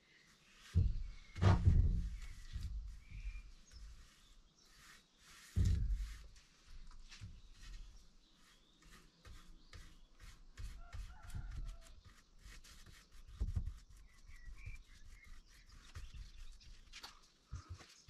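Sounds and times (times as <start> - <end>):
faint bird chirps: 0.0 - 6.1, 7.4 - 18.0
paintbrush scraping on plastic: 0.4 - 17.2.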